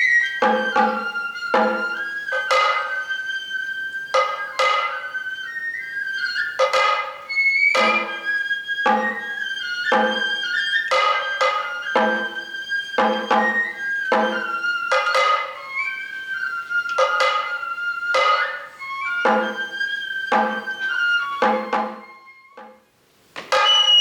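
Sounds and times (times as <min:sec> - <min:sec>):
bamboo flute melody: 0:00.0 - 0:24.0
taiko drum strokes: 0:00.0 - 0:24.0.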